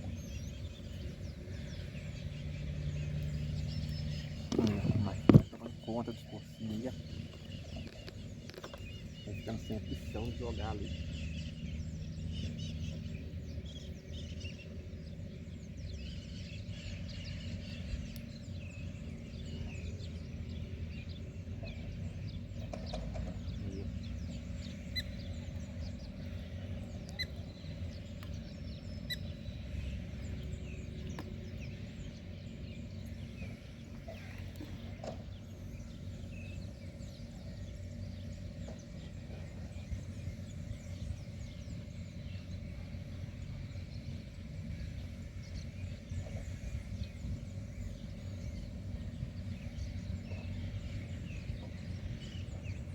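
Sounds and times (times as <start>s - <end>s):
birds chirping and calling: 0.0s - 52.9s
steady low rumble: 0.0s - 52.9s.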